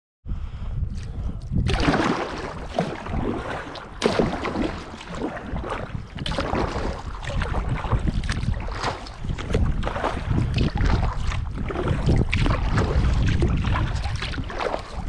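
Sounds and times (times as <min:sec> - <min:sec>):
wind rumbling on microphone: 0:00.3 - 0:15.0
paddle splashing in water: 0:01.6 - 0:15.0.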